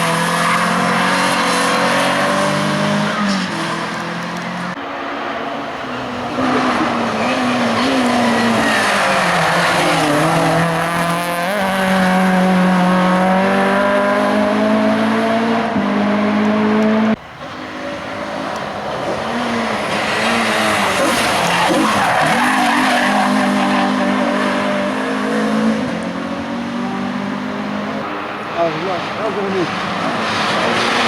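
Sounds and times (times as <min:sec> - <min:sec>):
race car engine at full throttle: 0:00.0 - 0:31.0.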